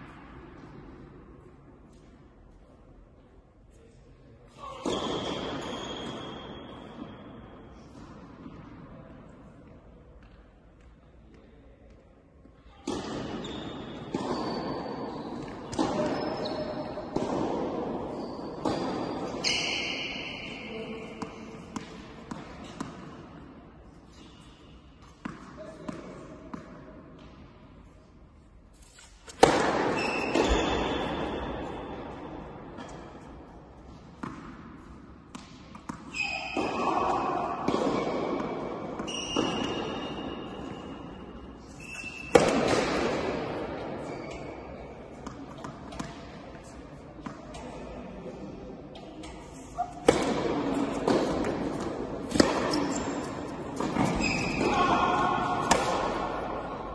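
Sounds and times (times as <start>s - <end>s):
tennis ball impacts with echo: 0.0s - 2.3s, 4.5s - 56.9s.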